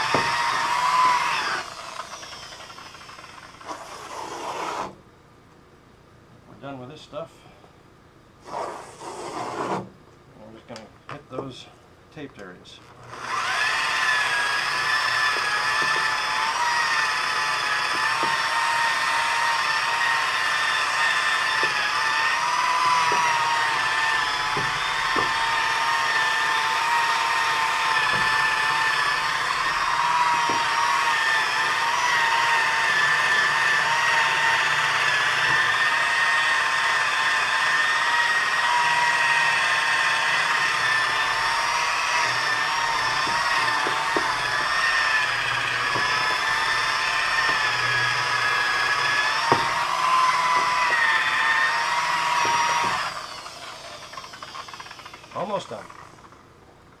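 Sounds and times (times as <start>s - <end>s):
electric polisher whining: 0.0s - 4.6s, 13.0s - 56.4s.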